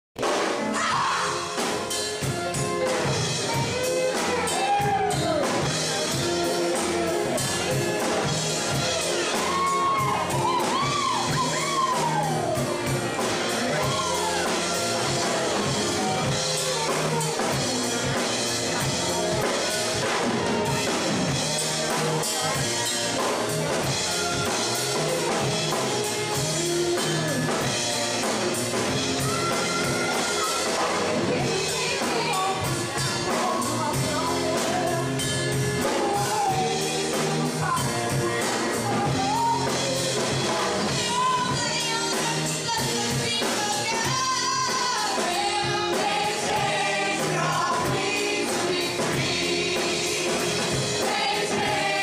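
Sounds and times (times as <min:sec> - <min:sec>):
drum kit: 0:00.2 - 0:52.0
electric guitars: 0:00.2 - 0:52.0
keyboard: 0:00.2 - 0:52.0
group of people singing: 0:00.6 - 0:52.0.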